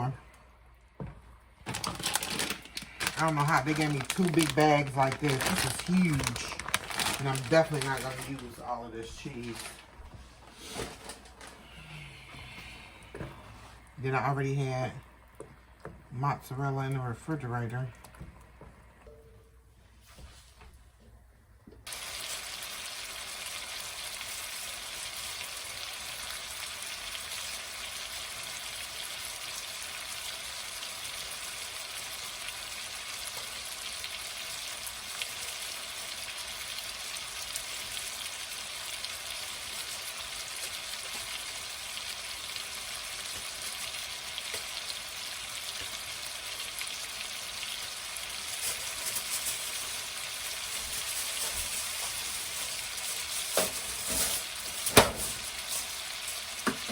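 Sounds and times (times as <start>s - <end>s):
food sizzling in a pan: 1.0s - 14.4s, 21.9s - 56.9s.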